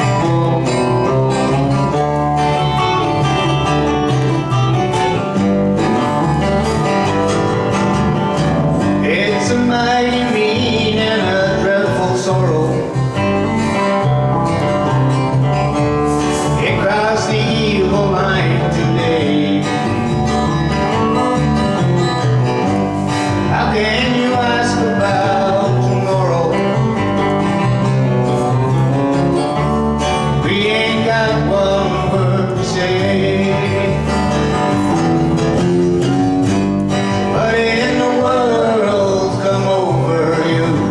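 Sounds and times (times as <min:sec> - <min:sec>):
acoustic guitar: 0:00.0 - 0:40.9
country bluegrass song: 0:00.0 - 0:40.9.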